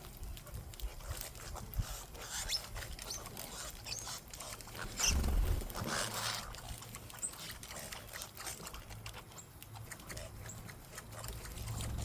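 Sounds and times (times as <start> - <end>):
birds scuffling: 0.0 - 12.0
small birds chirping: 0.4 - 12.0.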